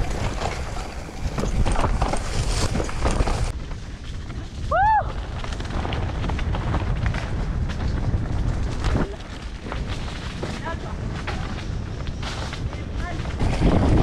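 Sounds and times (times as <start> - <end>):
bike rattling over ground: 0.0 - 14.0
wind buffeting microphone: 0.0 - 14.0.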